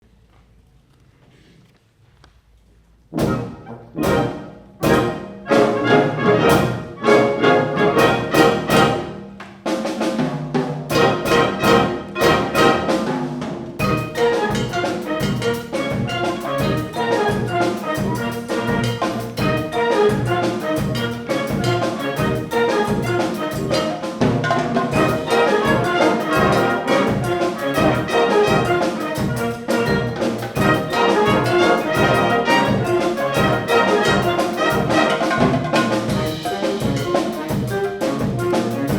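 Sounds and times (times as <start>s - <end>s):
wind band playing: 3.2s - 10.2s, 10.9s - 38.9s.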